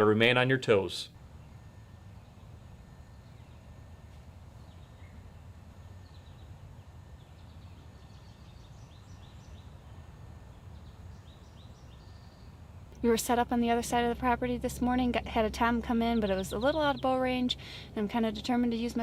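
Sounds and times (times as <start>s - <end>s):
faint low outdoor rumble: 0.0s - 19.0s.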